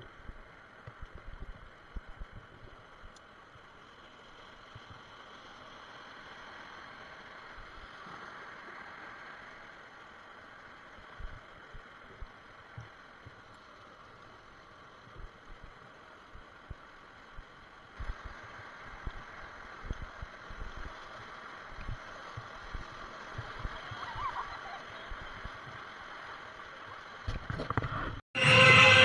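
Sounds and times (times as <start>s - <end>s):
river water rushing and gurgling: 0.0s - 29.0s.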